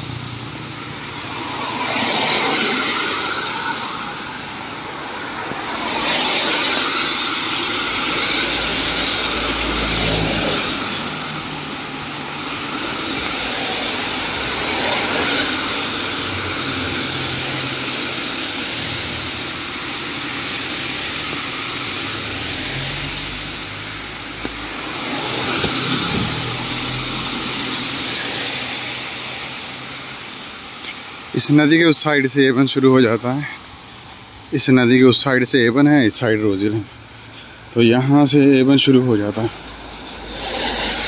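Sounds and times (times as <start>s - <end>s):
cars passing on wet road: 0.0s - 41.0s.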